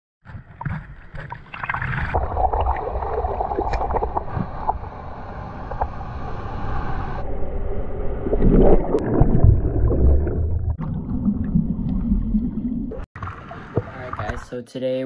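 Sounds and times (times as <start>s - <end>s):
water sloshing and gurgling: 0.2s - 14.5s.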